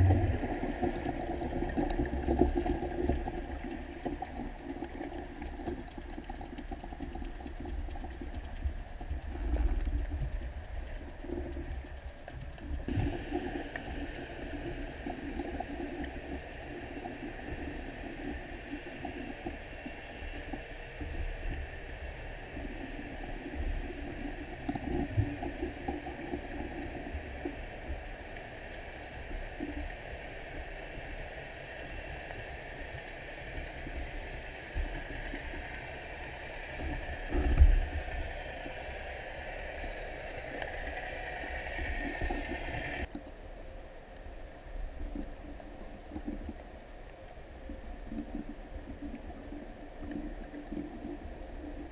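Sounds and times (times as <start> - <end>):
underwater rumble: 0.0 - 51.9
water gurgling and swishing: 0.0 - 51.9.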